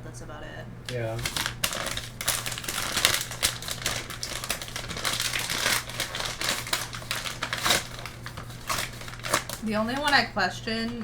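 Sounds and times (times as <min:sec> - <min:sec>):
plastic wrapper crinkling: 0:00.9 - 0:11.0.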